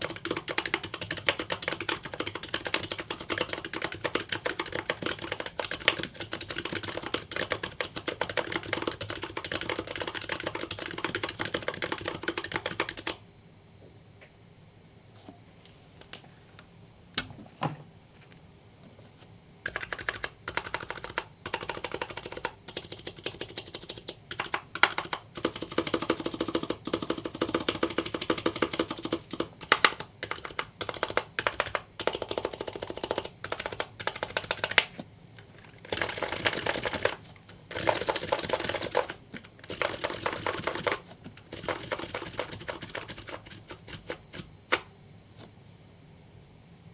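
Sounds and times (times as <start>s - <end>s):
keyboard typing: 0.0s - 13.2s, 19.6s - 44.9s.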